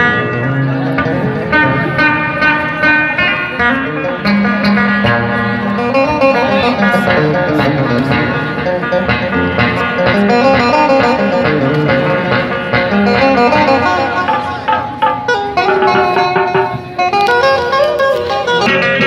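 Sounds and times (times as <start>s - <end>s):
banjo and guitars plucked melody: 0.0s - 19.0s
bass line: 0.0s - 19.0s.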